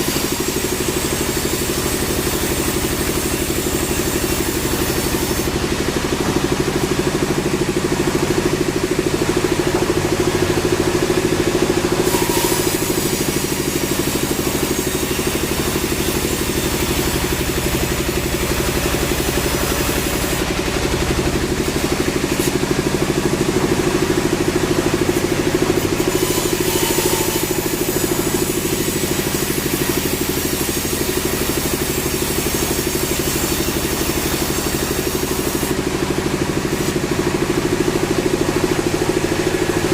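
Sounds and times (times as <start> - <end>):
sawmill machinery pulsing drone: 0.0 - 39.9.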